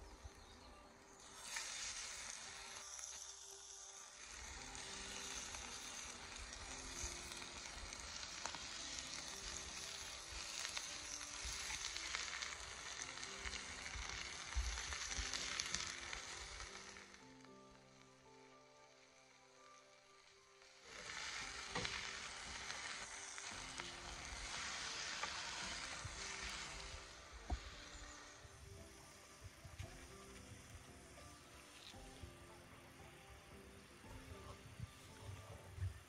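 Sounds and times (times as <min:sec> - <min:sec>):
chicken sizzling in frying pan: 0:00.0 - 0:36.0
small crackles: 0:00.0 - 0:36.0.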